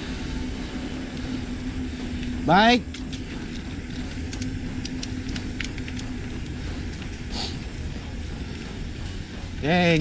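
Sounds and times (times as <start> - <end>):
low rumble: 0.0 - 10.0
steady hum: 0.0 - 10.0.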